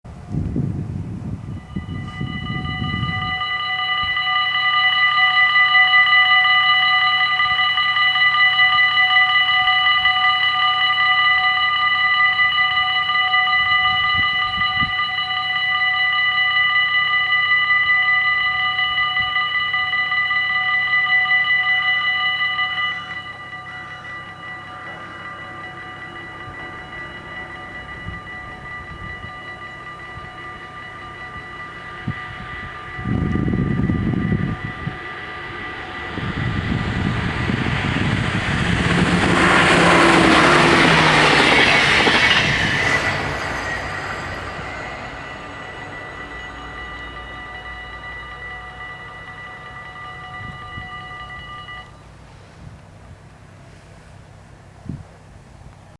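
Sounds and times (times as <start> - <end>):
train wheels on rails: 0.1 - 55.9
level crossing bells ringing: 1.5 - 52.4.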